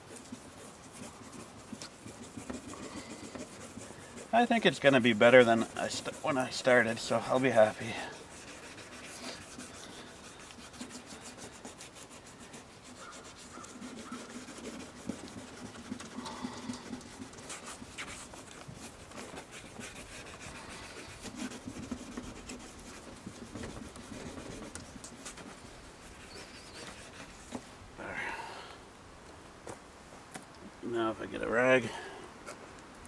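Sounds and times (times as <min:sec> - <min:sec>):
abrasive pad rubbing plastic: 0:00.0 - 0:27.7.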